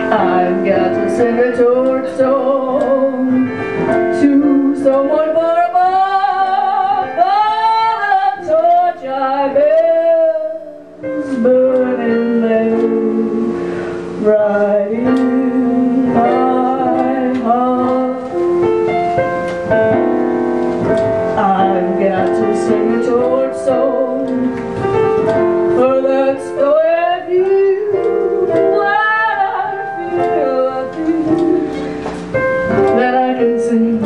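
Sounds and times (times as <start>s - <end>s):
person singing with vibrato: 0.0s - 19.0s, 21.4s - 34.0s
piano accompaniment: 0.0s - 34.0s.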